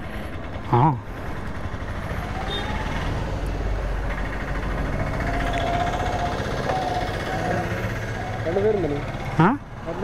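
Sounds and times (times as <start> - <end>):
motorcycle engine running: 0.0 - 10.0
road and traffic noise: 0.0 - 10.0.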